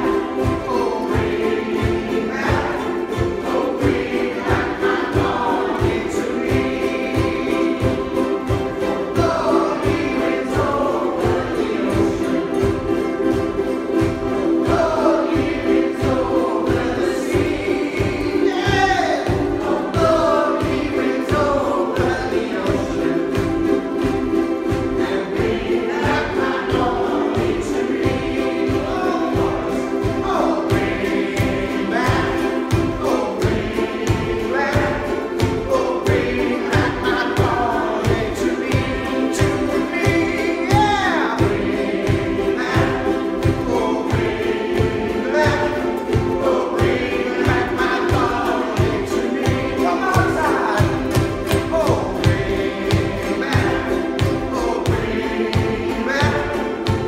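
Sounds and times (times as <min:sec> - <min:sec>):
group singing: 0:00.0 - 0:57.0
ukuleles strumming rock beat: 0:00.0 - 0:57.0.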